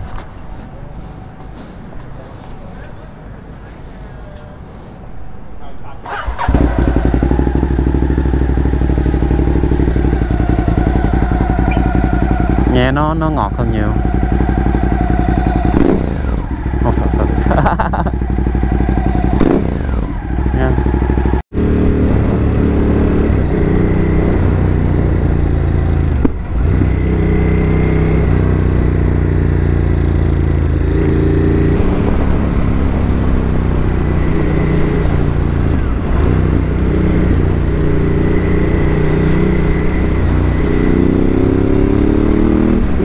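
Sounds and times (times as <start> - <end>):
motorcycle engine running: 6.2 - 43.0.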